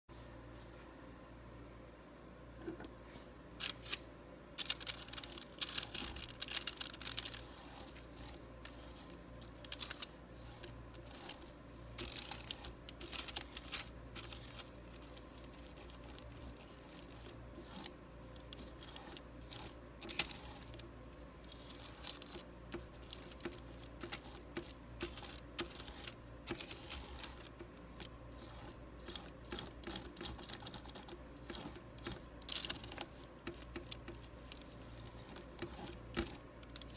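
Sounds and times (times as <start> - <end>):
faint steady hum: 0.1 - 36.9.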